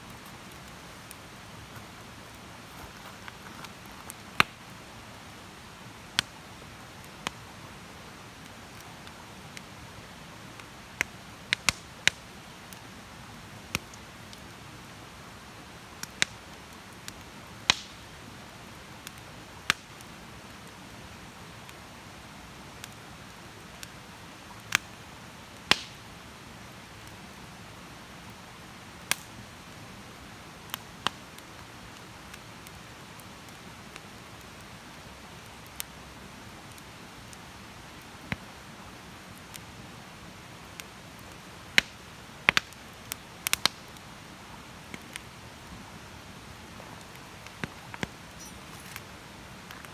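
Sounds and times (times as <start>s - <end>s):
campfire crackling and popping: 0.0s - 20.9s, 22.8s - 26.1s, 26.8s - 27.5s, 29.0s - 29.7s, 30.6s - 49.9s
soft steady hiss: 0.0s - 49.9s.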